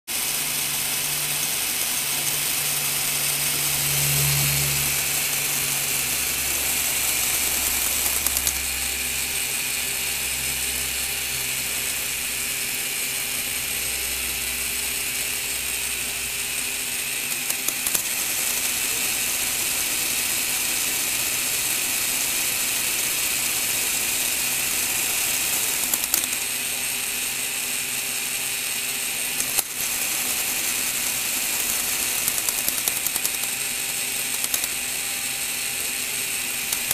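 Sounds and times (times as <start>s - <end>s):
electric motor whirring with gear chatter: 0.1s - 36.9s.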